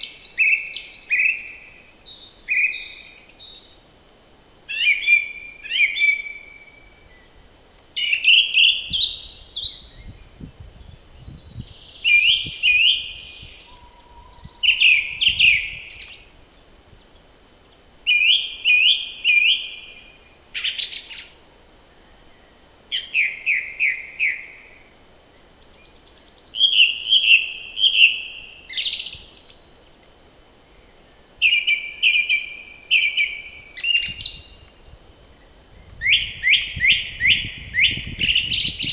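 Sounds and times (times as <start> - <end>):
songbirds singing: 0.0 - 38.9
faint low wind rumble: 0.9 - 23.1, 27.6 - 38.9.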